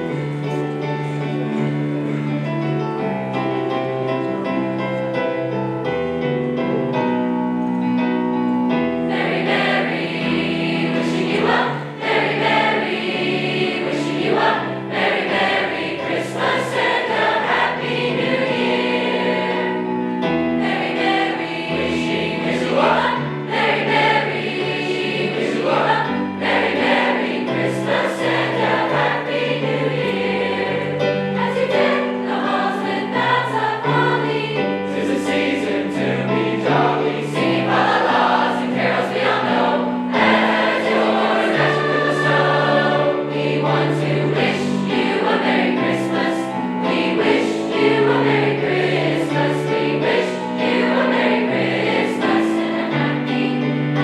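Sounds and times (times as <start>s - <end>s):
choir singing: 8.0s - 54.0s.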